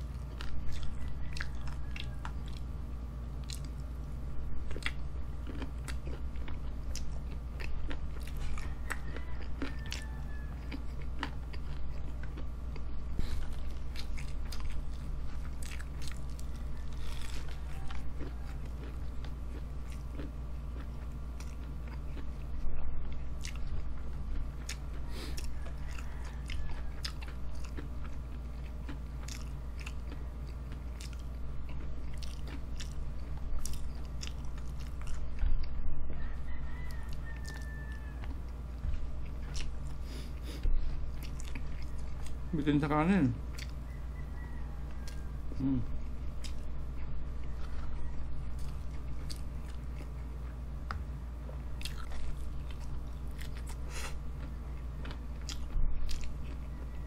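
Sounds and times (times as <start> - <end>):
chewing with crunchy bites: 0.0 - 57.0
constant low hum: 0.0 - 57.0.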